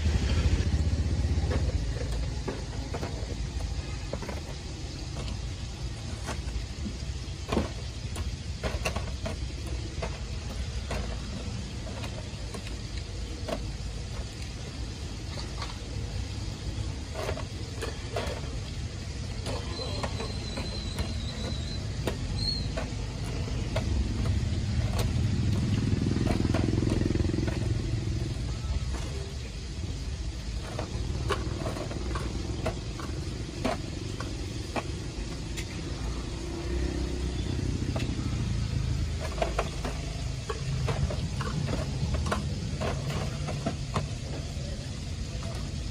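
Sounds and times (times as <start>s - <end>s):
street traffic rumble: 0.0s - 45.9s.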